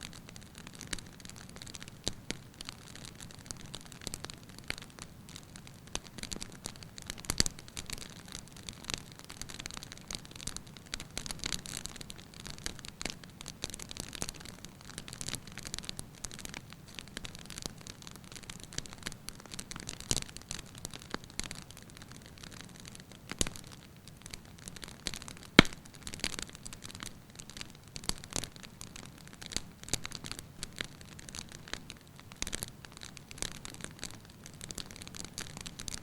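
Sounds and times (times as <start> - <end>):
logs crackling in fireplace: 0.1 - 36.0.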